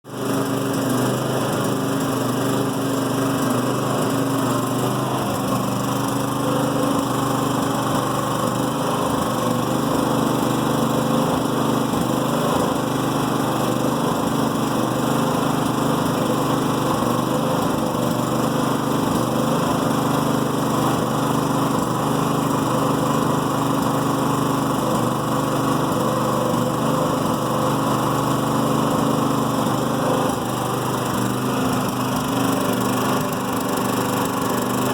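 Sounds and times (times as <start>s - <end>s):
generator engine idling roughly: 0.0s - 34.9s
engine popping: 0.2s - 34.9s.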